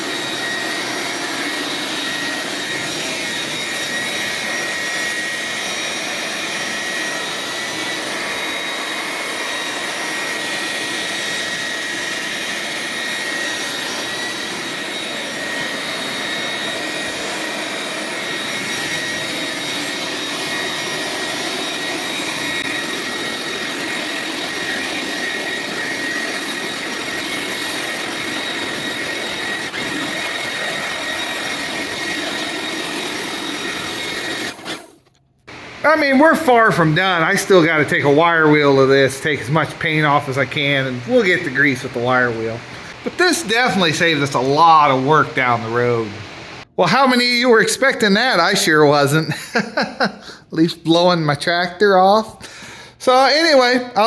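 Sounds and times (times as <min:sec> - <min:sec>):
leaf blower running: 0:00.0 - 0:47.4, 0:49.3 - 0:50.4.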